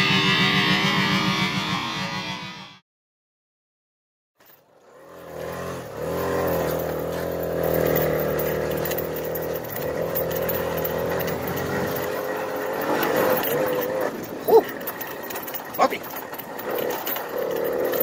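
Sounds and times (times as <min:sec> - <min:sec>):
two-stroke moped engine running: 0:00.0 - 0:02.5, 0:04.4 - 0:18.0.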